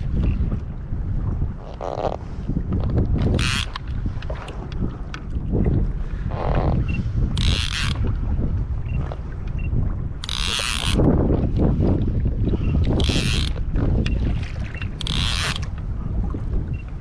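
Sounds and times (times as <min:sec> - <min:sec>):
water sloshing against hull: 0:00.0 - 0:17.0
wind buffeting microphone: 0:00.0 - 0:17.0.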